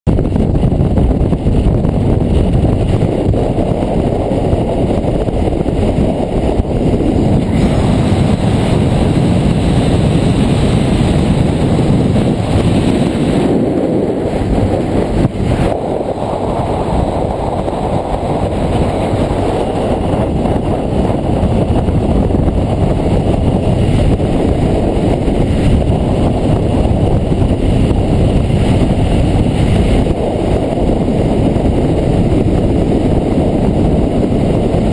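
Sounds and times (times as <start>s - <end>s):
motorcycle engine running: 0.1s - 34.9s
wind rushing over microphone: 0.1s - 34.9s.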